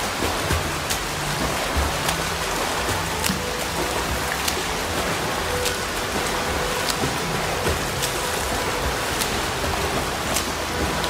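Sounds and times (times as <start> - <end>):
swimmer splashing: 0.0 - 11.0.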